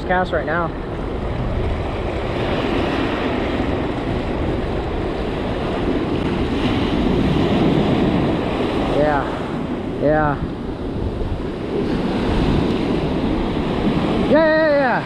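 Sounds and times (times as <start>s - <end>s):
ocean surf breaking on beach: 0.0s - 15.0s
wind on microphone: 0.0s - 15.0s.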